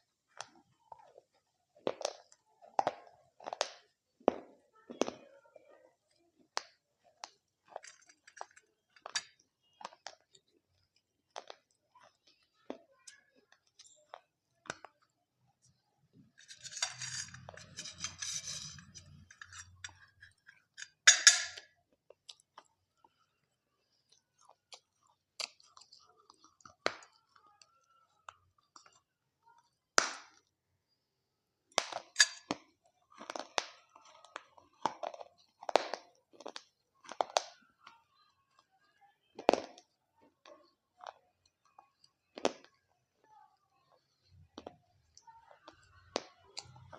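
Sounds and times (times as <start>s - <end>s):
crunching and chewing crisp food: 0.3s - 4.1s, 5.8s - 30.6s, 31.7s - 43.2s, 43.8s - 46.9s.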